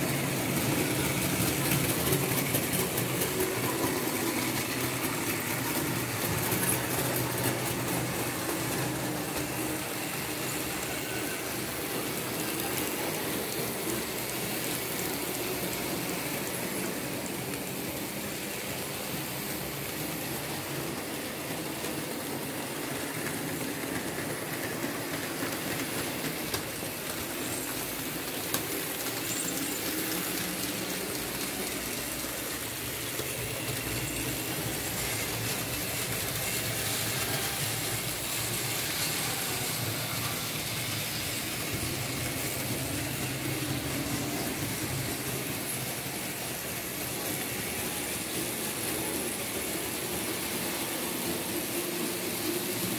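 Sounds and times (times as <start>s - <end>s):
model train motors whirring: 0.0s - 52.9s
wheels running on metal track: 0.0s - 52.9s.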